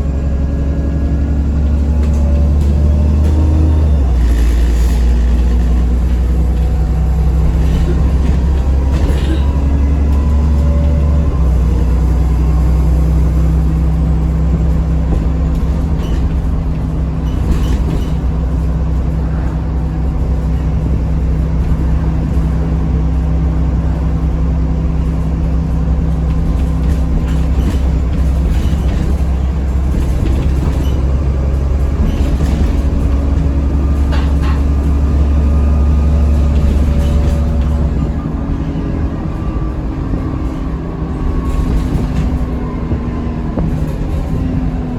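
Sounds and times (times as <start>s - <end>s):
bus body rattling: 0.0s - 44.9s
bus diesel engine drone: 0.0s - 44.9s.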